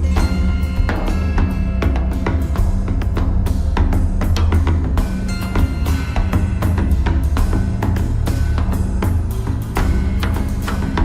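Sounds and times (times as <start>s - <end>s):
driving drum beat: 0.0s - 11.0s
heavy steady bass: 0.0s - 11.0s.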